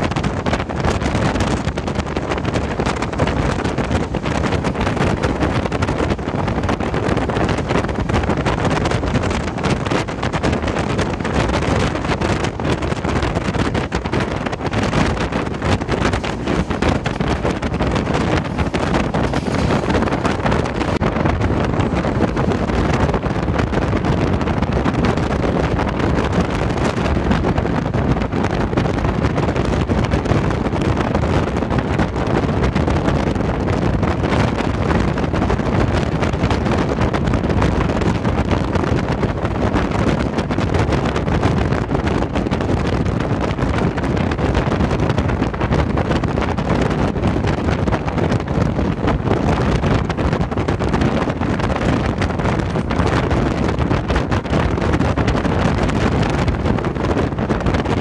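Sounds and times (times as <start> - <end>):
passenger train running: 0.0 - 58.0
wind on microphone: 0.0 - 58.0.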